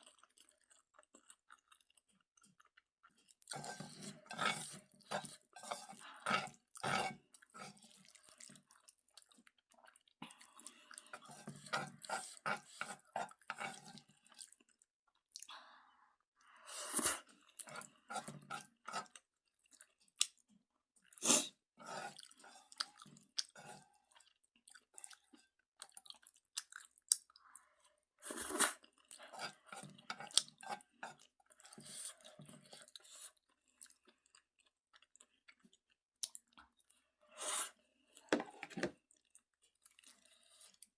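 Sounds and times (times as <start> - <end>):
person chewing noodles: 0.0 - 15.5, 16.5 - 40.9.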